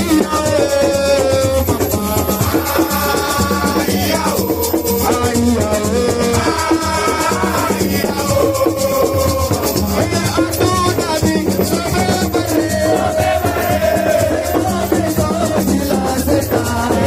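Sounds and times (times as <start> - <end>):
drum and bass groove: 0.0 - 17.0
shaker rattling: 1.7 - 17.0.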